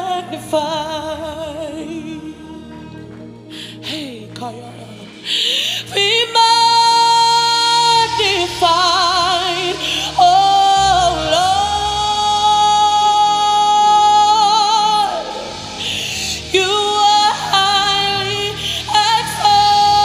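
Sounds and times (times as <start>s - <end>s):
keyboard accompaniment: 0.0s - 20.0s
woman singing gospel song: 0.0s - 20.0s.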